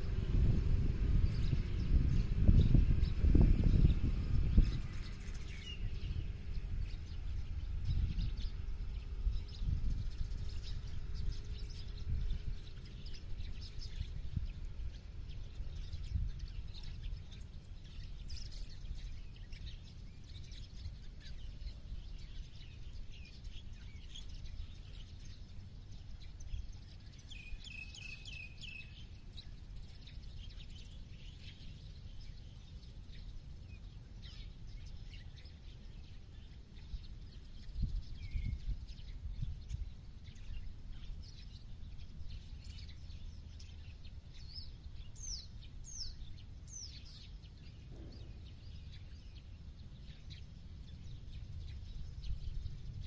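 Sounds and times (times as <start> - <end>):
small birds chirping: 0.0 - 53.0
steady low rumble: 0.0 - 53.0.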